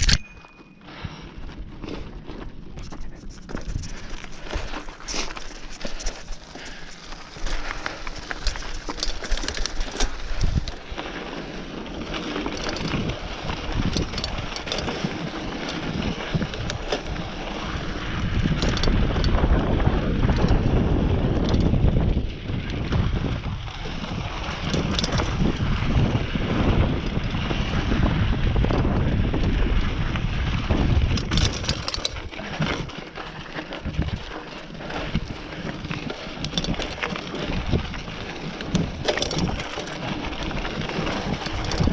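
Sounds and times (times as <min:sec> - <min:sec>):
bike rattling and knocking: 0:00.0 - 0:41.9
tyres crunching over dirt: 0:00.0 - 0:41.9
wind buffeting microphone: 0:07.3 - 0:41.9.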